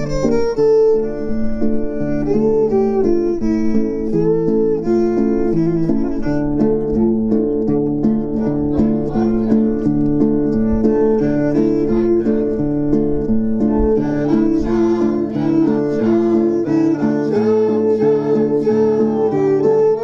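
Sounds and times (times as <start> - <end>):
plucked acoustic guitar: 0.0 - 20.0
violin playing slow tune: 0.0 - 20.0.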